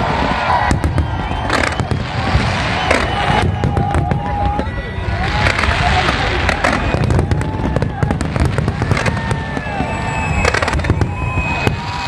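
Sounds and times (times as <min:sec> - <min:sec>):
fireworks bangs and crackling: 0:00.0 - 0:12.0
fireworks whistles: 0:00.0 - 0:12.0.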